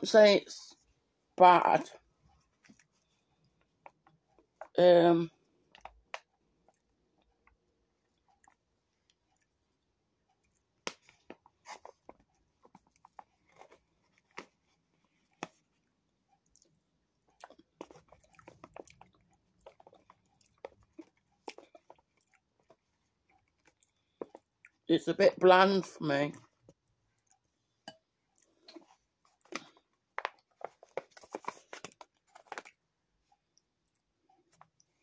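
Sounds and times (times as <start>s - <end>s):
person chewing food: 2.0s - 4.8s, 5.4s - 24.9s, 26.3s - 35.0s.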